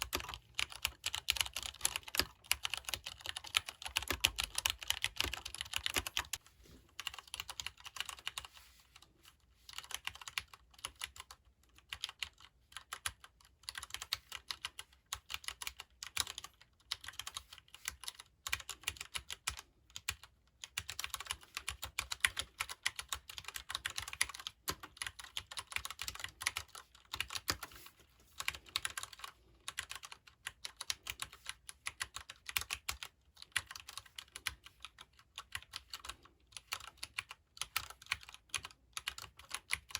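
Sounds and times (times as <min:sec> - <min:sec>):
typing on mechanical keyboard: 0:00.0 - 0:06.4, 0:07.0 - 0:08.5, 0:09.7 - 0:39.9.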